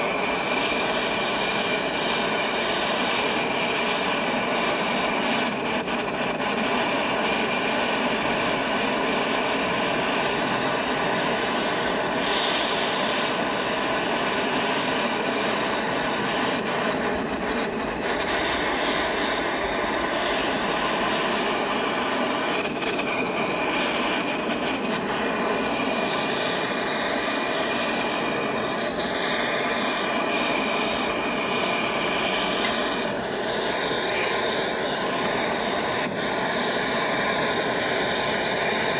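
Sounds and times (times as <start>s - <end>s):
gas torch flame blowing: 0.0s - 38.9s.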